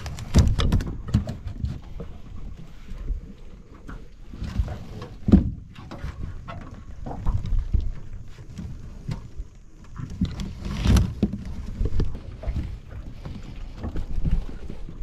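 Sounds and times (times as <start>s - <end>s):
knocks and bumps aboard a boat: 0.0s - 15.0s.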